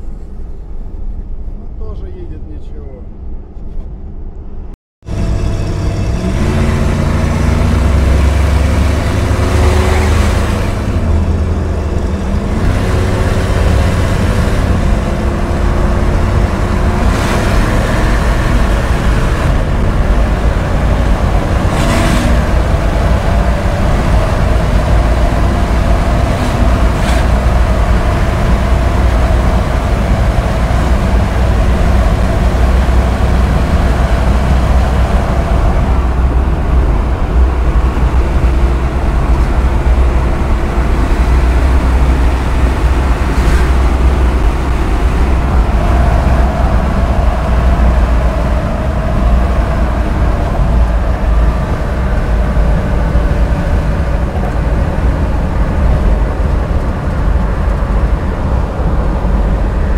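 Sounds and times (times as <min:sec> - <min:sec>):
road and wind noise: 0:00.0 - 0:59.9
car engine accelerating: 0:05.0 - 0:59.9.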